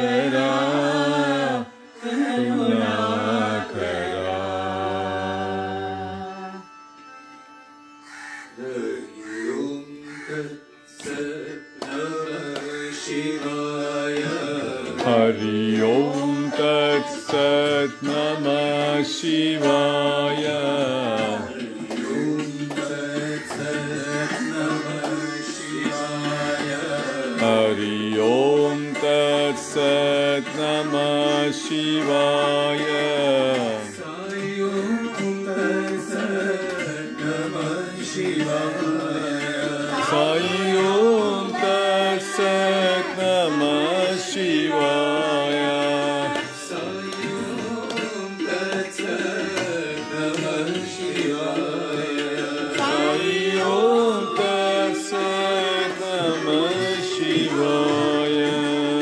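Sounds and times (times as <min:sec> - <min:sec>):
devotional singing voices: 0:00.0 - 0:06.8, 0:08.6 - 0:59.0.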